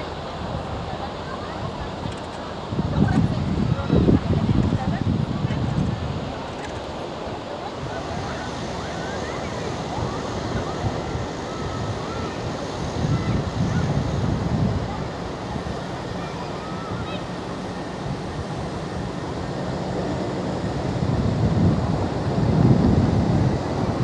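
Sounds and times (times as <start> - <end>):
surf washing on a beach: 0.0 - 24.0
wind buffeting microphone: 0.0 - 24.0.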